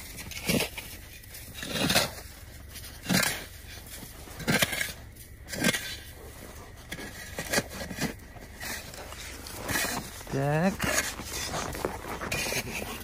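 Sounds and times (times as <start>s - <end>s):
shovel scraping packed snow: 0.0s - 13.0s.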